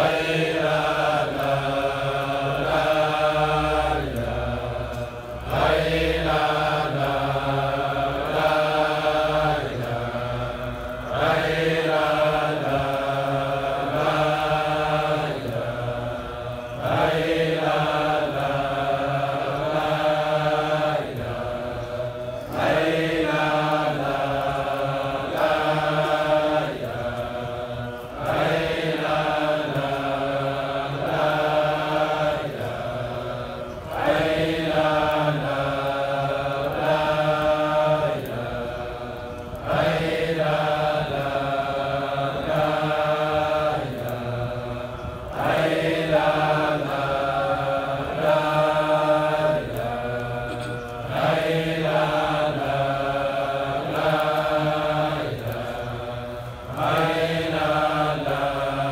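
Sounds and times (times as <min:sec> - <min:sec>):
men chanting in unison: 0:00.0 - 0:58.9.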